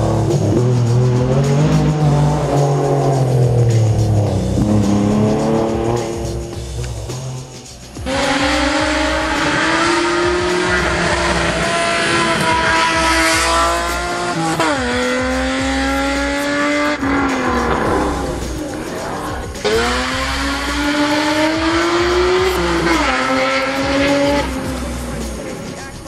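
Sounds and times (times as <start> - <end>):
race car engine full throttle: 0.0 - 26.0.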